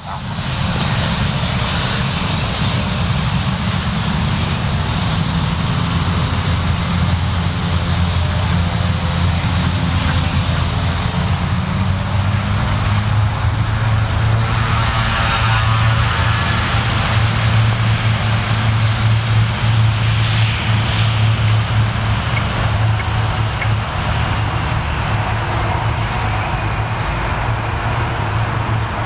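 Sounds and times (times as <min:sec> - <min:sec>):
high turbine whine: 0:00.0 - 0:29.0
turboprop engine drone: 0:00.0 - 0:29.0.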